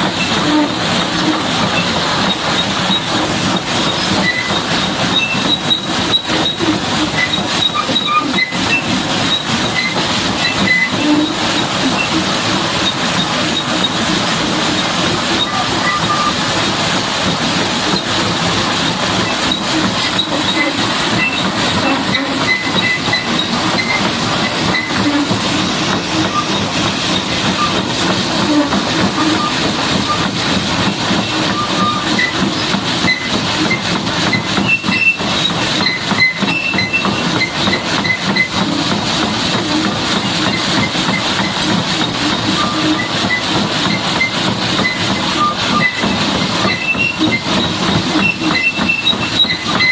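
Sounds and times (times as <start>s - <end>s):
high-pressure water jet spraying: 0.0s - 49.9s.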